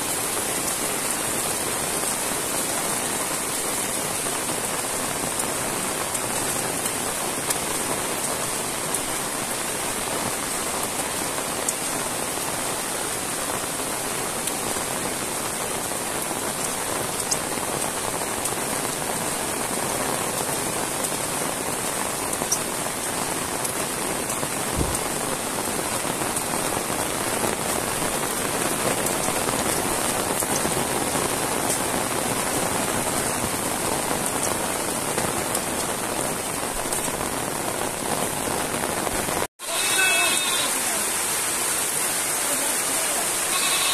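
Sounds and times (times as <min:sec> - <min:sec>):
heavy rain on leaves: 0:00.0 - 0:43.9.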